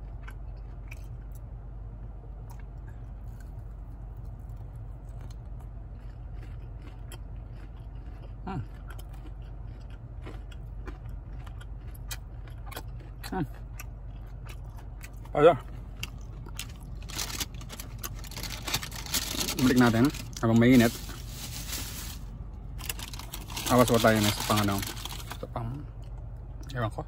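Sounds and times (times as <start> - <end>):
person chewing food: 0.0 - 1.5, 2.4 - 26.8.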